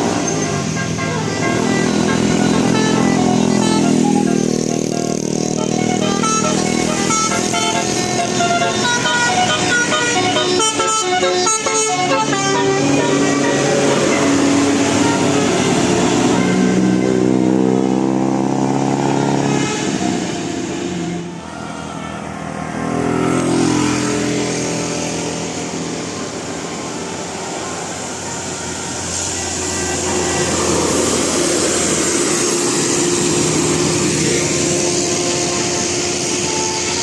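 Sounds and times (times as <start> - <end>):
engine and traffic noise: 0.0 - 37.0
multi-tone bus horn tune: 0.0 - 37.0.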